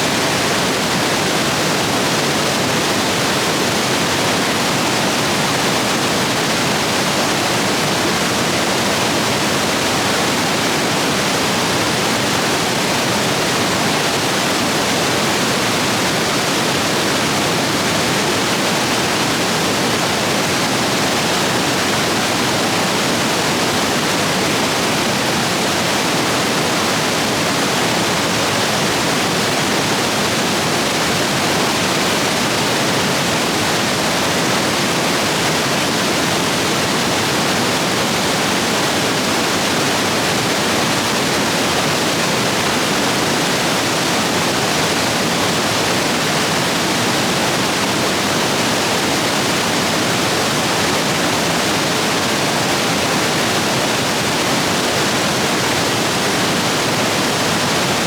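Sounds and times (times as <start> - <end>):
stream rapids rushing over rocks: 0.0 - 58.0.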